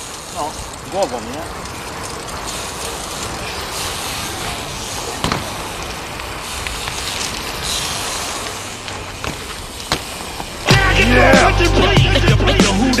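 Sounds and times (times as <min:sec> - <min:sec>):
bike knocking: 0:00.0 - 0:10.9
bike tyres crackling on paving: 0:00.0 - 0:13.0.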